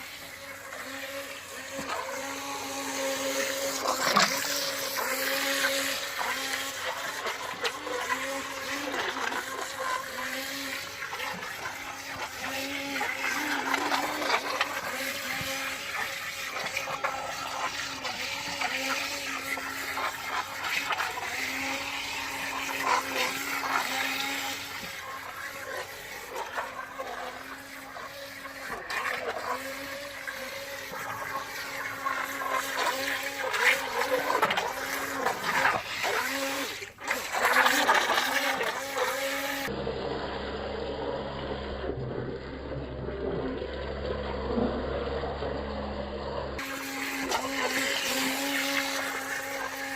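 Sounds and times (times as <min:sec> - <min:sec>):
small electric motor whining: 0:00.0 - 0:49.9
water churning and splashing: 0:00.0 - 0:49.9.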